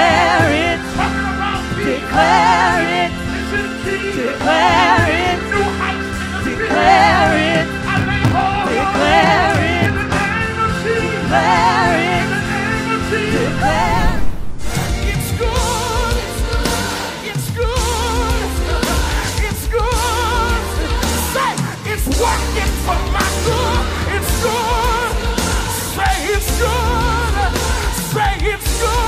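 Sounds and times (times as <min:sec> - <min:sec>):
keyboard and bass backing: 0:00.0 - 0:29.0
person singing with vibrato: 0:00.0 - 0:29.0.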